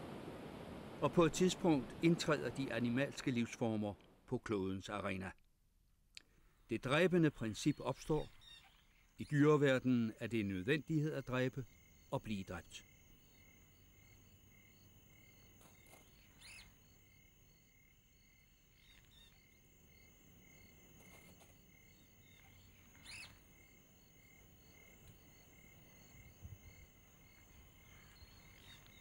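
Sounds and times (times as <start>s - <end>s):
insects chirping: 0.1s - 4.0s, 6.2s - 29.0s.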